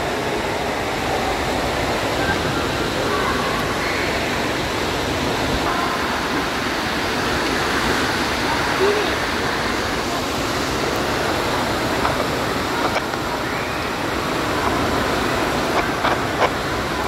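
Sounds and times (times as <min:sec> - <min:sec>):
faint voices of swimmers: 0:00.0 - 0:17.0
water gushing and splashing: 0:00.4 - 0:17.0.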